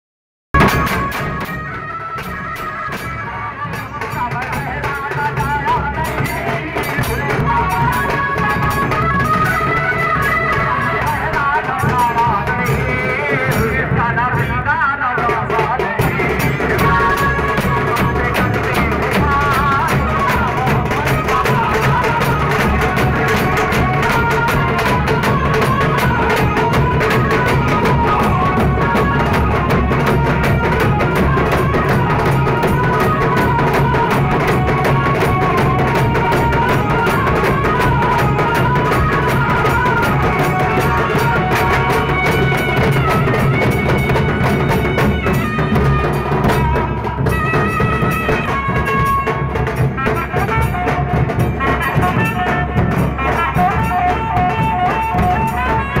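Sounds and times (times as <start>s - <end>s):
dhol drumming: 0.5s - 56.0s.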